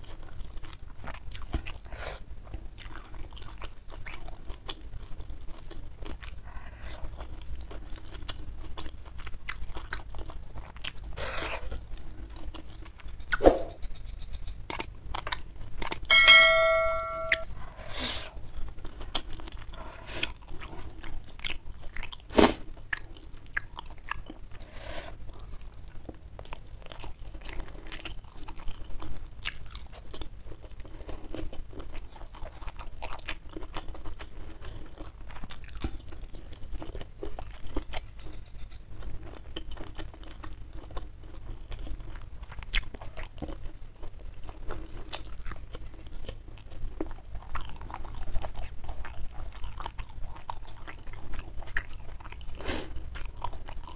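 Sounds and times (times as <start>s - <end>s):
person chewing and crunching food: 0.0s - 16.2s, 17.0s - 53.9s.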